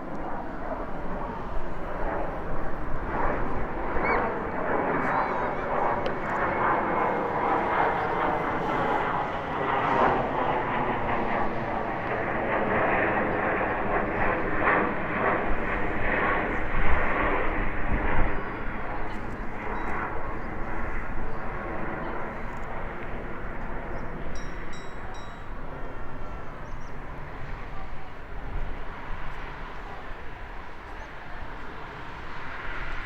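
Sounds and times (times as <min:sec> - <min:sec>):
jet engines running with whine: 0:00.0 - 0:33.0.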